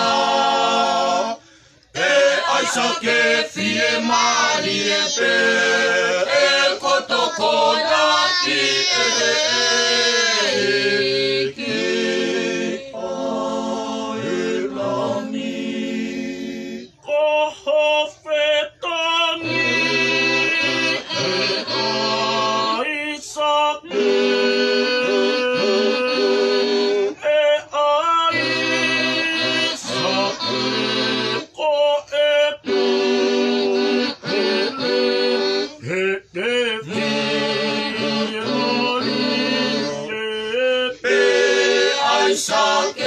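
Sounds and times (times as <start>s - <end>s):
group singing without instruments: 0.0s - 43.0s.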